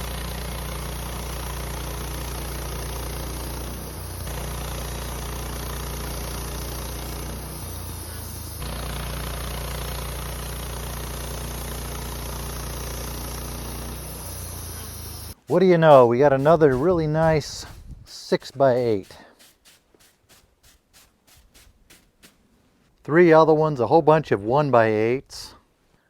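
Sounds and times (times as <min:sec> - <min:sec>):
sawmill engine sawing a log: 0:00.0 - 0:22.4.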